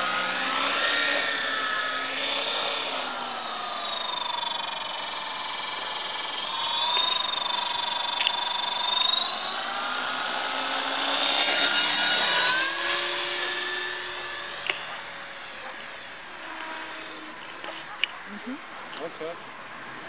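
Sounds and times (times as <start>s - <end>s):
rc helicopter motor whining: 0.0s - 18.4s.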